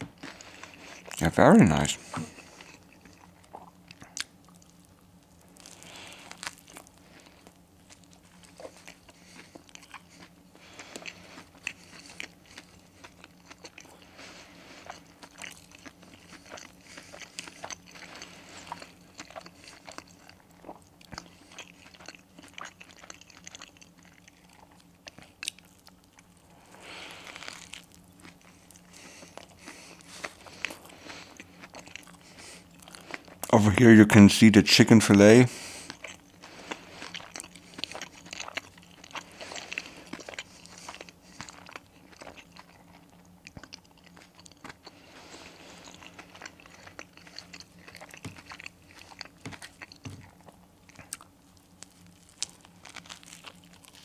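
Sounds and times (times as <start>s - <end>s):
crunchy chewing: 0.0s - 33.6s, 35.5s - 54.0s
faint steady hum: 0.0s - 54.0s.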